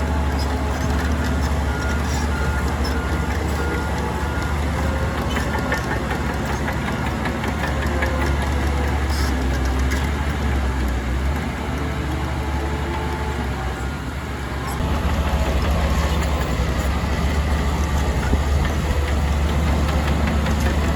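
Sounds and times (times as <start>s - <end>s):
diesel engine drone: 0.0s - 20.9s.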